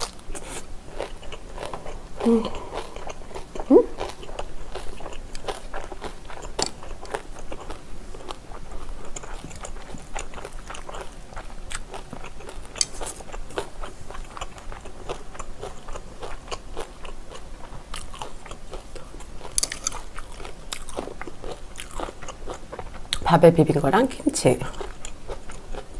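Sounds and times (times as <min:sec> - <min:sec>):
chewing and wet mouth sounds: 0:00.0 - 0:23.3, 0:24.6 - 0:25.9.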